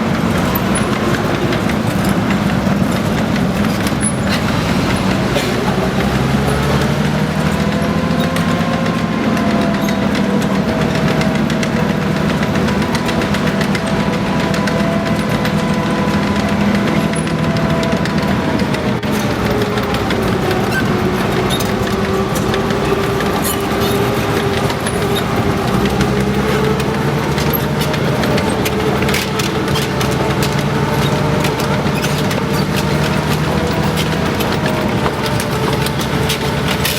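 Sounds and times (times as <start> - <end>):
light irregular ticking: 0.0 - 36.9
tank engine droning: 0.0 - 36.9.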